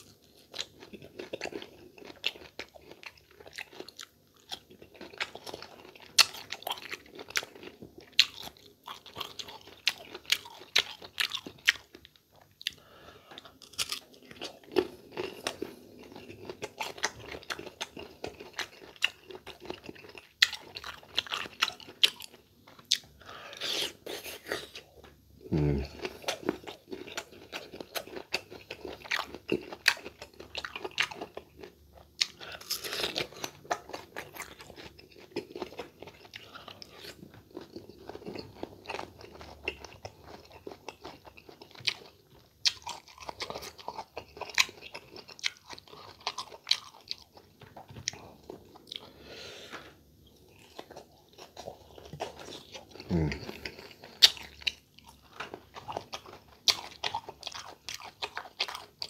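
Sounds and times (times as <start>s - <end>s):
crunchy chewing: 0.0s - 24.9s, 25.6s - 59.0s.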